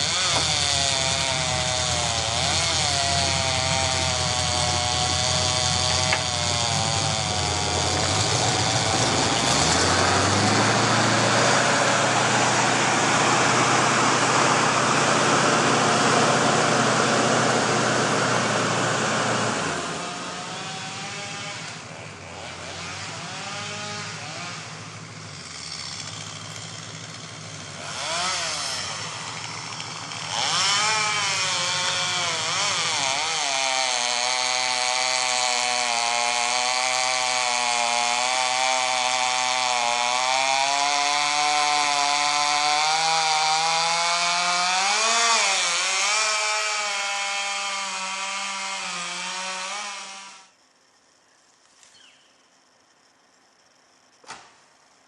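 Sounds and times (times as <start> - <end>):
chainsaw revving and sawing wood: 0.0 - 50.6.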